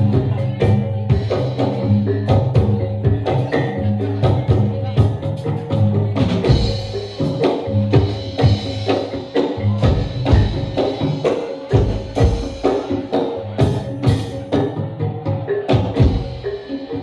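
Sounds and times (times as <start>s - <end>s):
drums and ringing percussion: 0.0s - 17.0s
heavy low drum beat: 0.0s - 17.0s.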